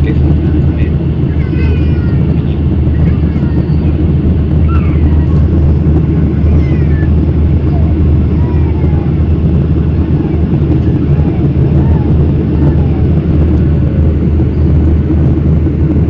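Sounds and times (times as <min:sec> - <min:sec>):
jet cabin engine rumble: 0:00.0 - 0:16.0.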